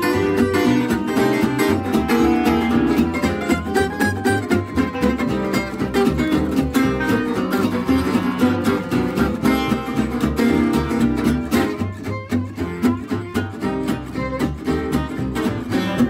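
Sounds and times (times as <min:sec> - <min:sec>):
lead acoustic guitar picking: 0:00.0 - 0:16.0
strummed rhythm guitar chords: 0:00.0 - 0:16.0.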